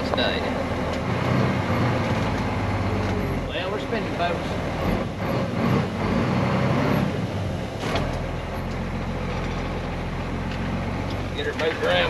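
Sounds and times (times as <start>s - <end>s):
diesel truck engine under throttle: 0.0s - 12.0s
truck wheels spinning: 0.0s - 12.0s.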